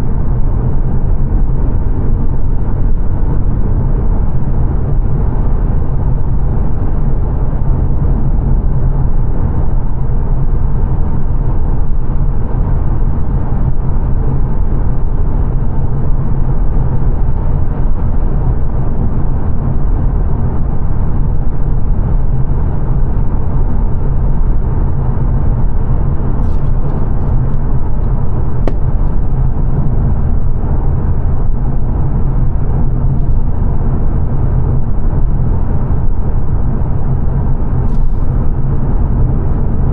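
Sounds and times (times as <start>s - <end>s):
car engine drone: 0.0s - 39.9s
road and tyre rumble: 0.0s - 39.9s.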